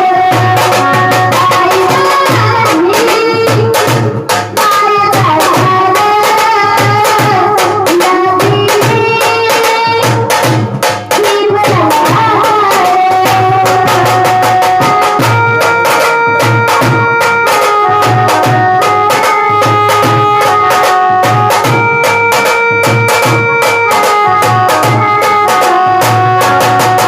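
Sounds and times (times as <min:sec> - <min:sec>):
instrumental music with drum beat: 0:00.0 - 0:27.0.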